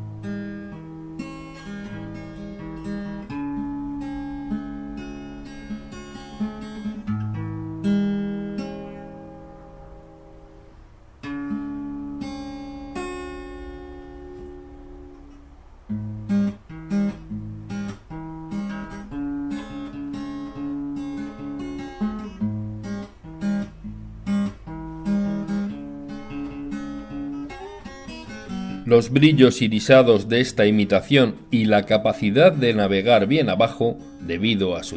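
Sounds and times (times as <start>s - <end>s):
acoustic guitar music: 0.0s - 34.9s.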